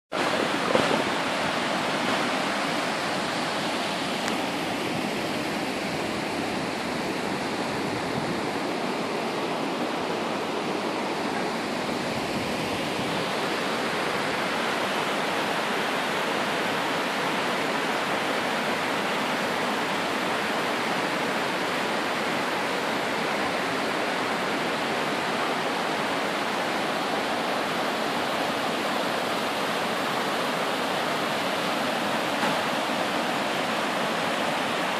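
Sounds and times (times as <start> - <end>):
water rushing over rocks: 0.1 - 34.9.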